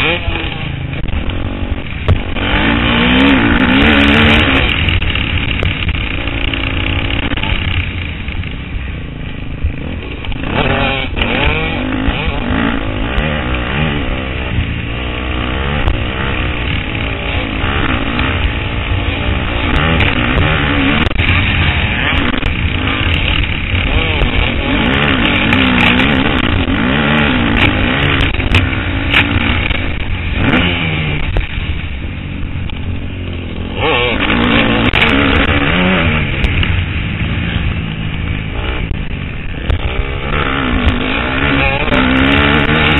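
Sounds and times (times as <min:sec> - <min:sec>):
motocross engine revving: 0:00.0 - 0:42.9
rushing wind noise: 0:00.0 - 0:42.9.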